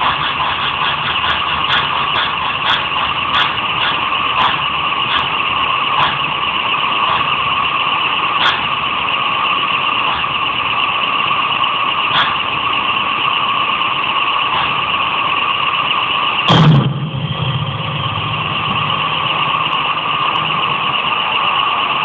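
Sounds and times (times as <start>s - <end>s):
loud mechanical whirring: 0.0s - 22.0s.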